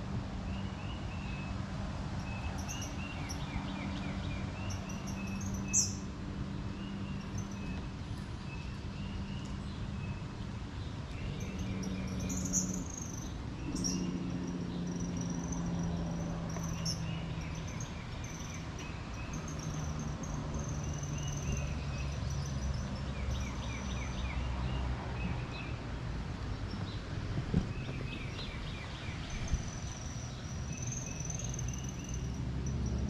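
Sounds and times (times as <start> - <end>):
birds calling and chirping: 2.2 - 33.0.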